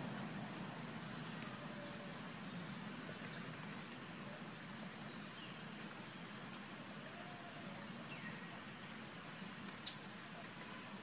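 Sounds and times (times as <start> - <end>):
low outdoor hum: 0.0 - 11.0.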